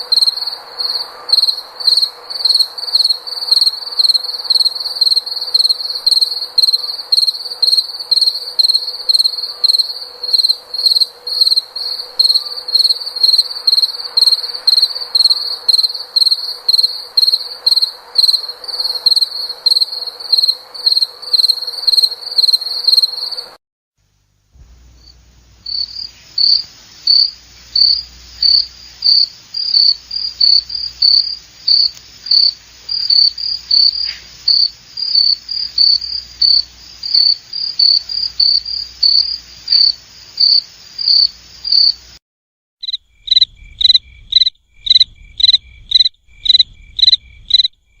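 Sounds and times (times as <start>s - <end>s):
crickets chirping: 0.0s - 23.6s, 24.6s - 42.2s, 42.8s - 48.0s.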